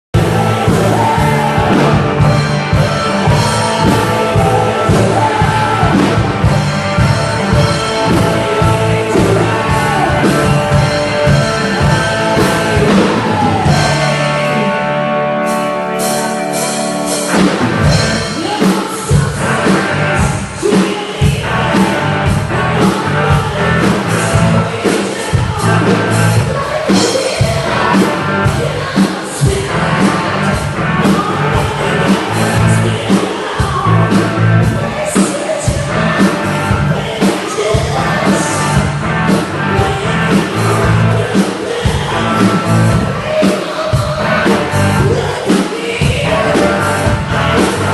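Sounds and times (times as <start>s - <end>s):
person singing: 0.2s - 47.9s
rock band playing: 0.2s - 47.9s.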